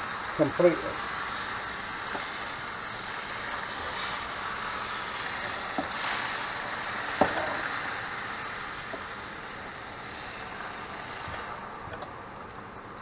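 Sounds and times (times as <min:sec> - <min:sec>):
eggs sizzling on a griddle: 0:00.0 - 0:13.0.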